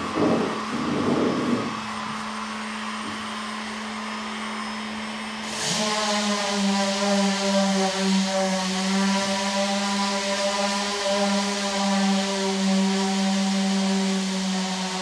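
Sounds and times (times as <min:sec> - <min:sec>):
electric motor whining: 0:00.0 - 0:15.0
steady electrical hum: 0:00.0 - 0:15.0.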